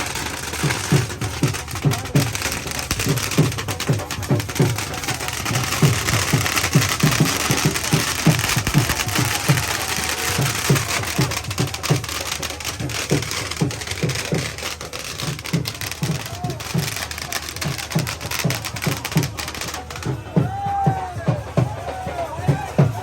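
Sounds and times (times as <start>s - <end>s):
constant background noise: 0.0s - 23.0s
drum beaten in fast rhythm: 0.0s - 23.0s.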